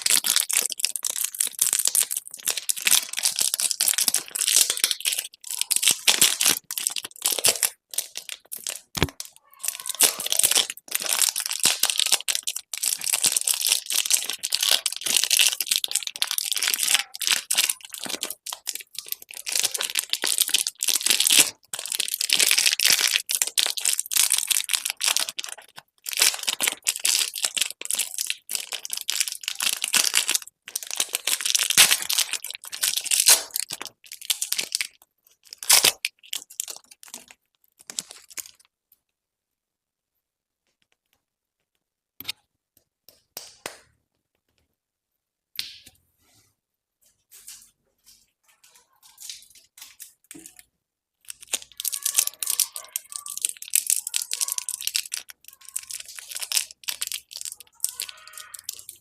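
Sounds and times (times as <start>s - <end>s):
candy wrappers crinkling: 0.0s - 38.7s, 47.5s - 59.0s.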